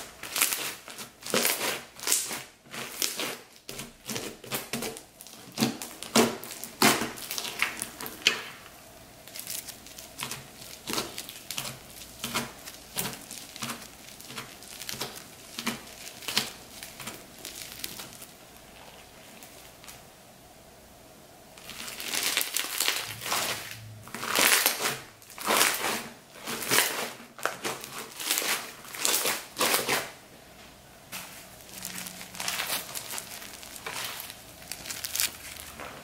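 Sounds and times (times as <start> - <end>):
slime beads crackling and popping: 0.0 - 8.4, 9.2 - 20.0, 21.6 - 30.1, 31.4 - 35.8.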